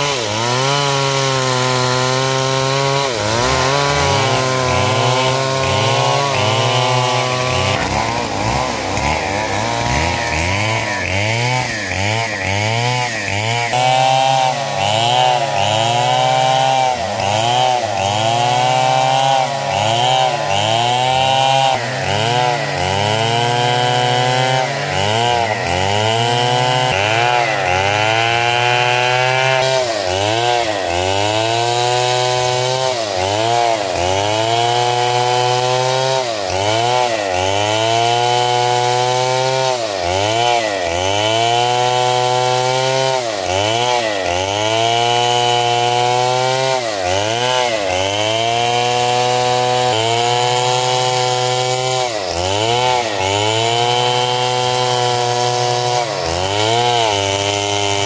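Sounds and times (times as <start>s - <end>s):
chainsaw sawing through wood: 0.0s - 58.0s.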